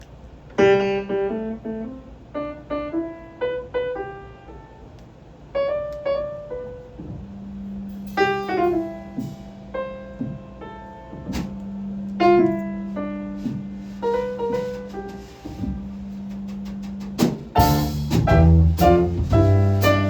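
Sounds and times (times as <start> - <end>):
slow jazz piano: 0.0 - 20.0.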